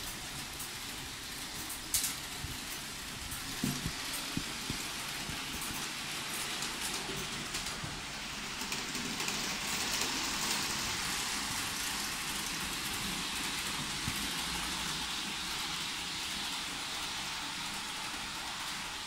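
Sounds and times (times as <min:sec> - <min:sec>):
model trains running on rails: 0:00.0 - 0:19.0.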